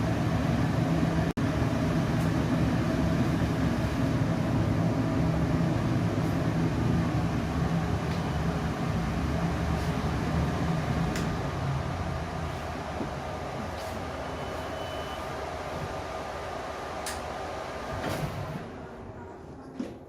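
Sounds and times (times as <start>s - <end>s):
laser cutter and fans humming: 0.0s - 20.0s.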